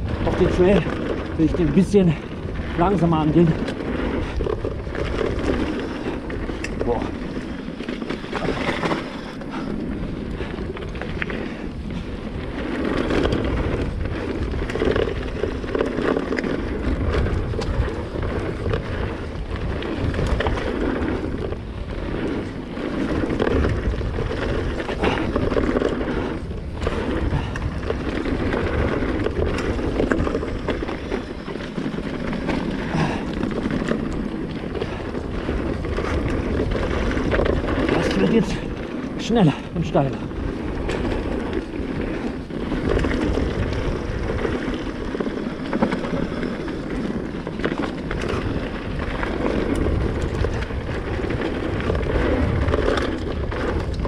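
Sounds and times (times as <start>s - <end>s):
bike knocks and rattles: 0.0s - 54.0s
tyres rolling over gravel: 0.0s - 54.0s
wind buffeting microphone: 0.0s - 54.0s.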